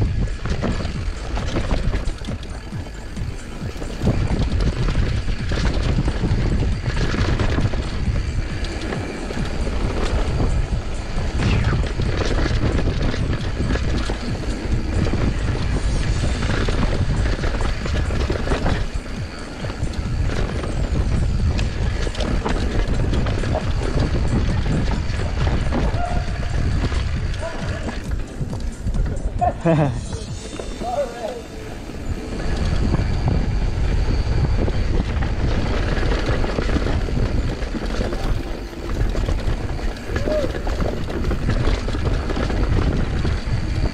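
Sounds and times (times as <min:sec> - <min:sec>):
bike knocks and rattles: 0:00.0 - 0:31.3, 0:34.6 - 0:43.9
bike tyre noise on dirt: 0:00.0 - 0:43.9
wind buffeting the microphone: 0:00.0 - 0:43.9.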